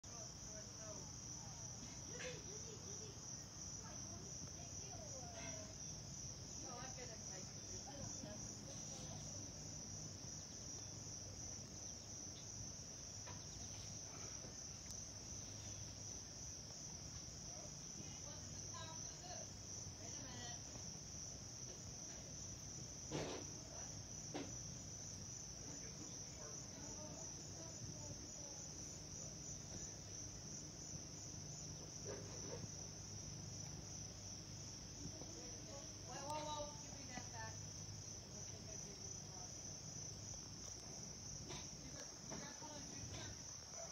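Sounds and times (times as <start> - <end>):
high-pitched insect chorus: 0.1 - 43.9.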